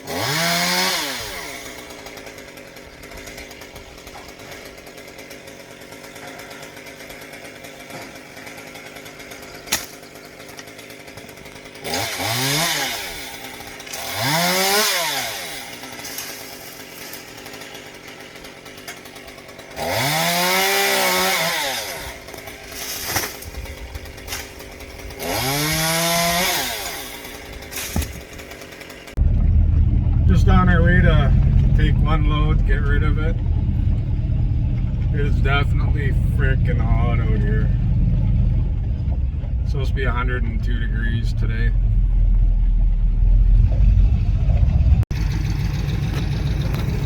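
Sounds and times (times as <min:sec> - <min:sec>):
chainsaw idling and revving: 0:00.0 - 0:43.8, 0:45.1 - 0:47.0.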